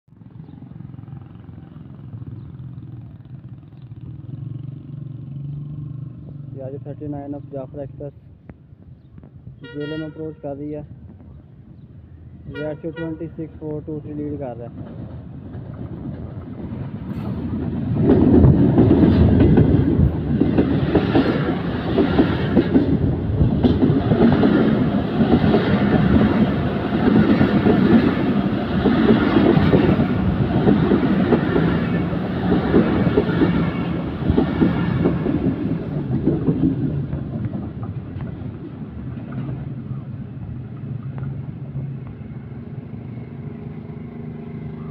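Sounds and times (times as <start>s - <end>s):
diesel locomotive passing: 0.1s - 8.4s, 9.5s - 44.9s
train coaches rumbling past: 8.9s - 44.9s.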